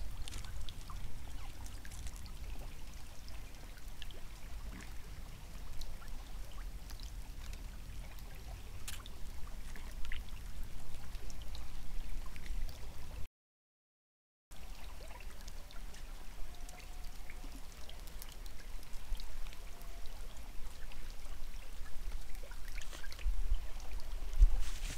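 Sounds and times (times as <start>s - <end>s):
stream running: 0.0s - 13.3s, 14.5s - 24.9s.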